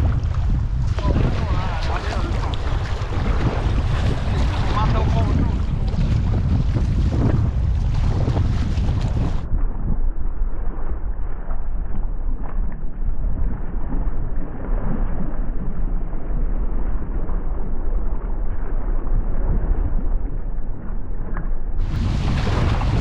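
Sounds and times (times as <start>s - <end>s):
choppy water: 0.0s - 23.0s
wind rumbling on microphone: 0.0s - 23.0s.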